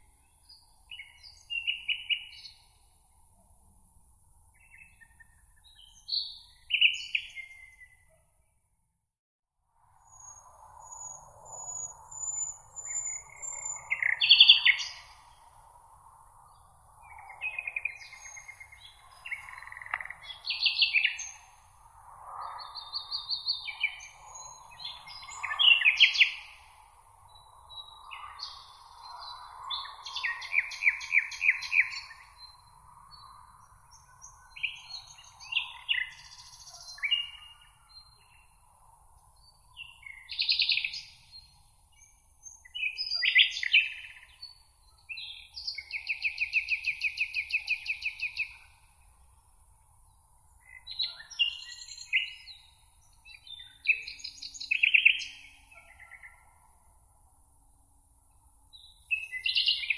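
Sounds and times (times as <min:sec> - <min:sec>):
songbirds singing: 0:00.0 - 0:03.3, 0:04.4 - 0:08.6, 0:10.0 - 0:59.9.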